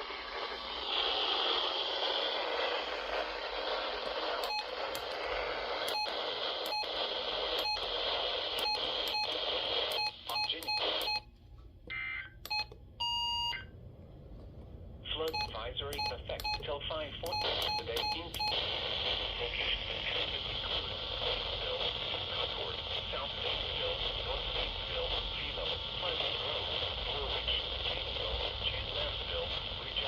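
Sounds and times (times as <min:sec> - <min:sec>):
radio static hiss: 0:00.0 - 0:11.2, 0:15.0 - 0:30.0.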